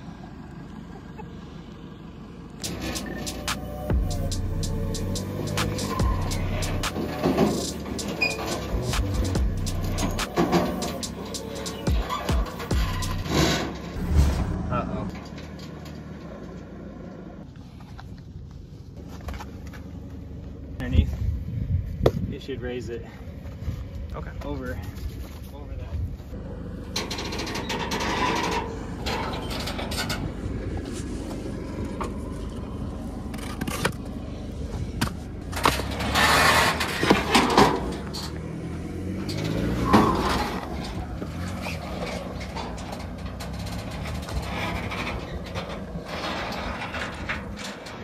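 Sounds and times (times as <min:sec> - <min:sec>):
diesel engine under load: 0:00.0 - 0:22.1, 0:25.9 - 0:48.0.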